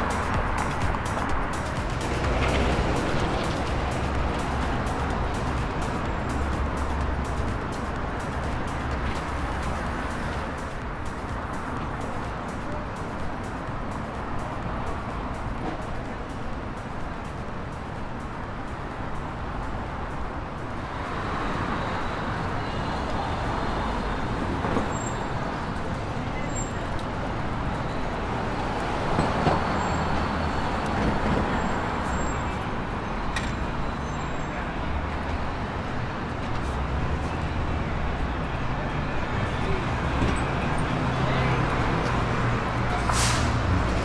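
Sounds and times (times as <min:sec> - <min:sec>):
cars passing on busy street: 0:00.0 - 0:44.0.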